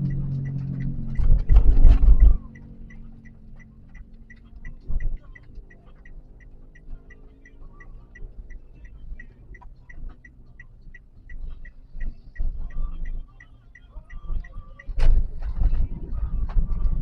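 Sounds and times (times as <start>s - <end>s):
turn signal ticking: 0.0s - 17.0s.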